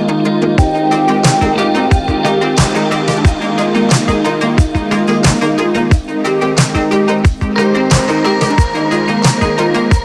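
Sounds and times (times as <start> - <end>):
kick drum and hi-hat: 0.6 - 10.0.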